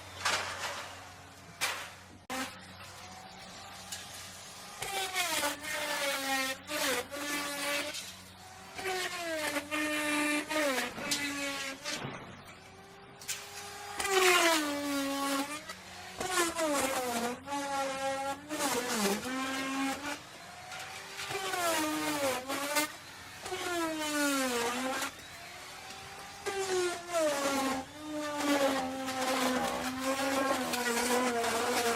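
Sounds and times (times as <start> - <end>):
wood router cutting wood: 1.3 - 31.9.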